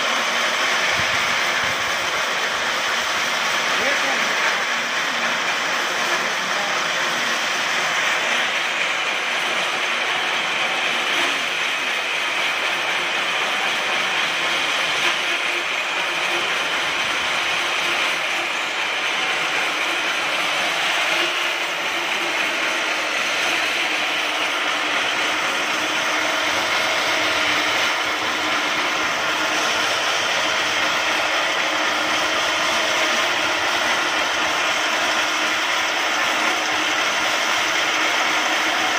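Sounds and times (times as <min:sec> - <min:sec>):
band saw cutting through log: 0:00.0 - 0:38.9
saw machinery rattling: 0:00.0 - 0:38.9.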